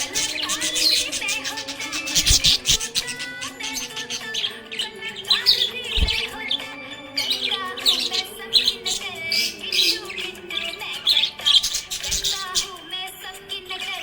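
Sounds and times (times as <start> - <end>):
budgerigars chirping: 0.0 - 12.9
background music: 0.0 - 14.0.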